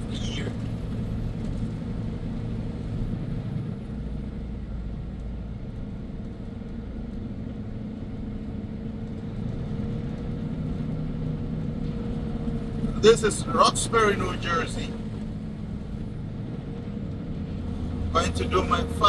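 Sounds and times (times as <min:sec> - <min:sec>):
diesel truck engine cruising: 0:00.0 - 0:19.0
road rumble: 0:00.0 - 0:19.0.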